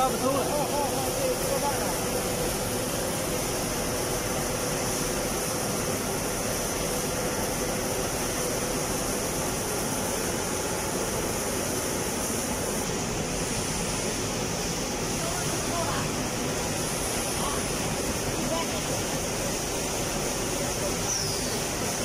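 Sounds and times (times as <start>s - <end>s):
feed pellet production line running: 0.0s - 22.0s.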